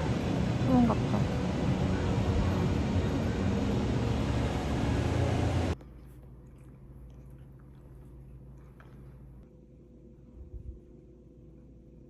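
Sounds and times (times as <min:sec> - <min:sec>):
outdoor ambient rush: 0:00.0 - 0:12.0.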